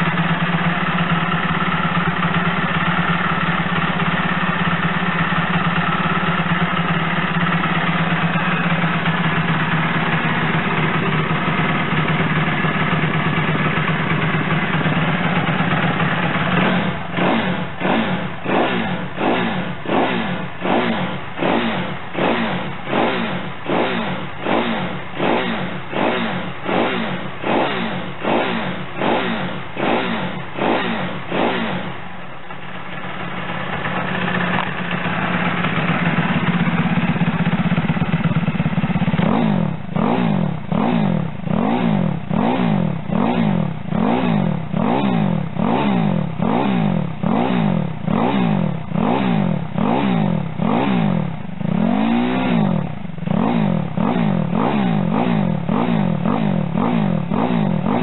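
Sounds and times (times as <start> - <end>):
mini bike engine revving: 0.0 - 32.1, 33.1 - 58.0.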